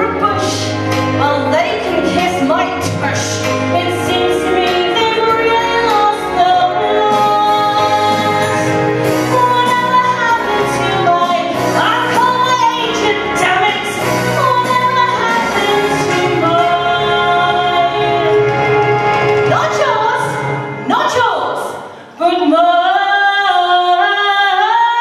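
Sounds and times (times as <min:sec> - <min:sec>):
musical accompaniment: 0:00.0 - 0:25.0
woman singing: 0:00.0 - 0:25.0.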